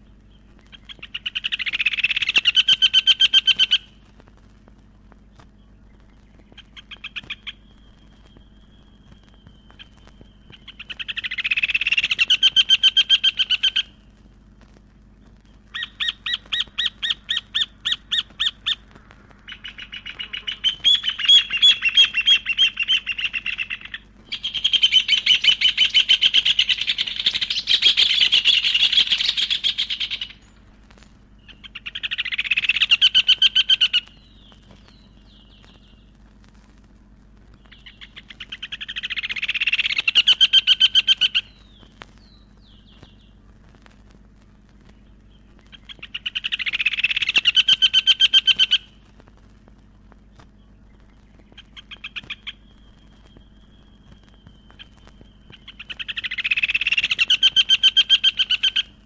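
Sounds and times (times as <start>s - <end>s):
bird song of rapid high notes: 0.0s - 36.4s, 37.0s - 59.0s.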